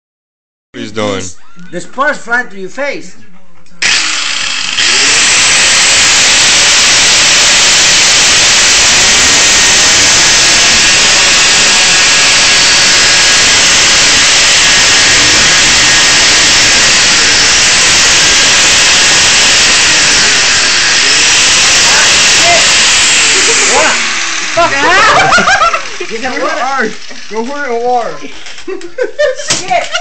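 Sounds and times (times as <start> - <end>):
angle grinder cutting steel: 3.8 - 28.8.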